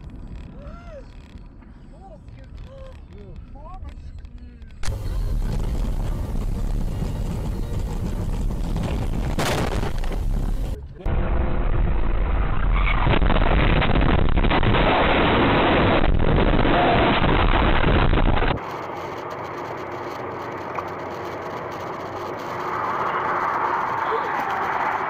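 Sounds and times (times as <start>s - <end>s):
car driving noise: 4.1s - 25.0s.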